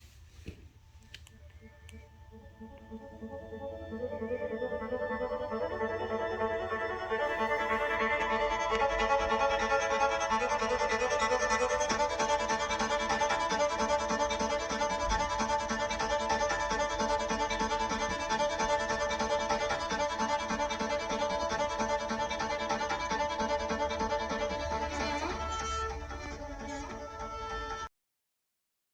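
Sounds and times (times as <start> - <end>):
violin melody: 1.4 - 27.9.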